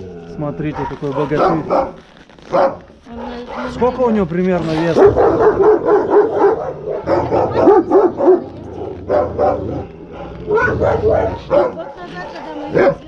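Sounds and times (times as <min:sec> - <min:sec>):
dog barking deeply: 0:00.6 - 0:04.1, 0:04.7 - 0:13.0.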